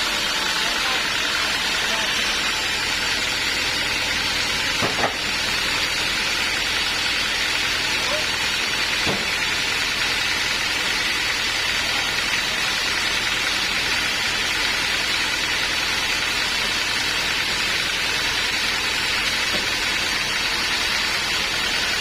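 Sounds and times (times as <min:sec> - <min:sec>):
band sawmill running: 0:00.0 - 0:22.0.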